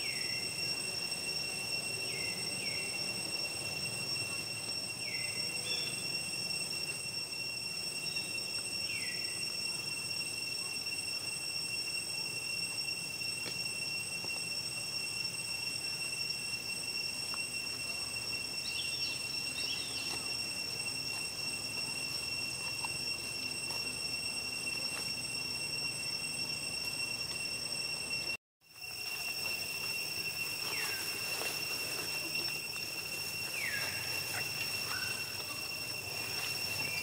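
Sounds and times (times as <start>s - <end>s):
high-pitched insect drone: 0.0s - 37.0s
outdoor background hiss: 0.0s - 37.0s.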